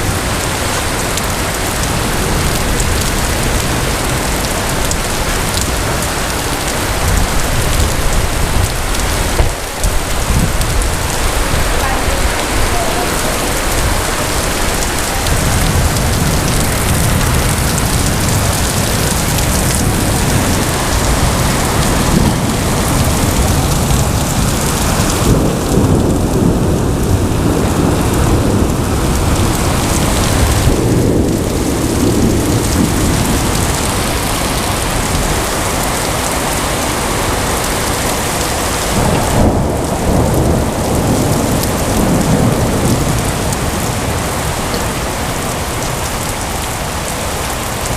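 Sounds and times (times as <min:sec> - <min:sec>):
heavy rain pouring: 0:00.0 - 0:47.9
thunder rumbling: 0:00.0 - 0:47.9.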